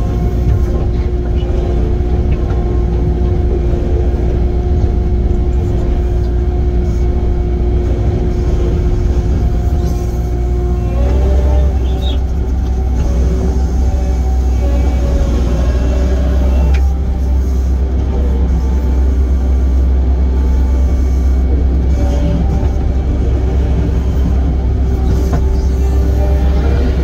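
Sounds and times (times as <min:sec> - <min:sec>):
excavator diesel engine rumbling: 0:00.0 - 0:27.0.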